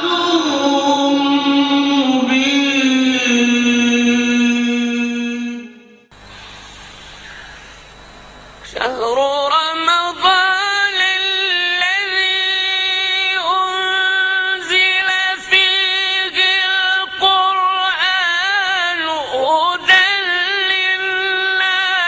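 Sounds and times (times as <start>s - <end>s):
person reciting in melodic chant: 0.0s - 5.8s, 8.7s - 22.0s.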